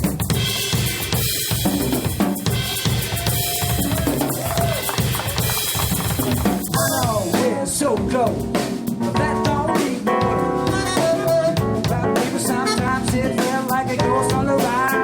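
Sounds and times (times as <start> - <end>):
drum kit beat with rimshots: 0.0 - 15.0
live band playing: 0.0 - 15.0.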